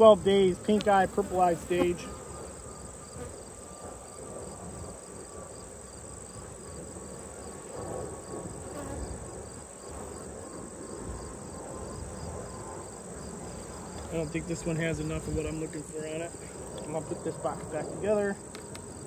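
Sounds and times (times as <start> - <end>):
crickets chirping: 0.0 - 19.0
bees buzzing: 0.2 - 19.0.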